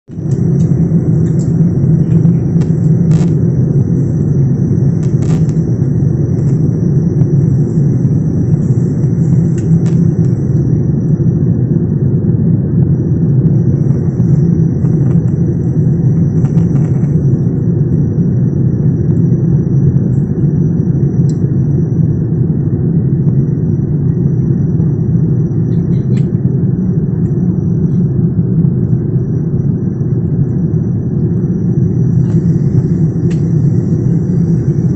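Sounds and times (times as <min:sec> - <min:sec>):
jet engine cabin drone: 0:00.0 - 0:34.9.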